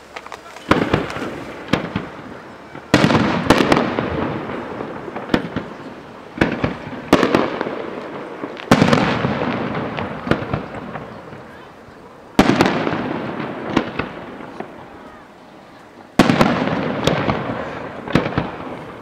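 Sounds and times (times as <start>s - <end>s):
fireworks booming with rumbling echo: 0.0s - 19.0s
fireworks pops and crackles: 0.0s - 19.0s.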